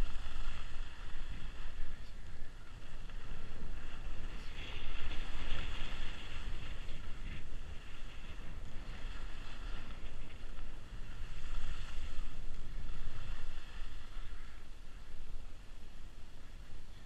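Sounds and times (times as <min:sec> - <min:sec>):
skis sliding over snow: 0:00.0 - 0:17.0
wind buffeting microphone: 0:00.0 - 0:17.0.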